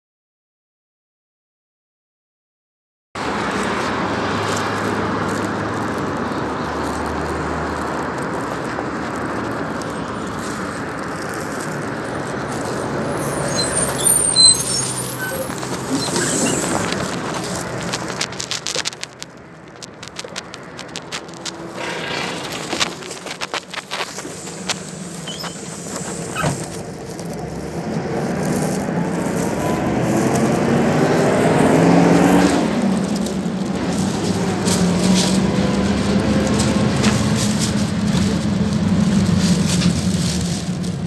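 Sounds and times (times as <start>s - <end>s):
brake squeaks: 3.2s - 41.0s
bus engine: 3.2s - 41.0s
roadside traffic noise: 3.2s - 41.0s.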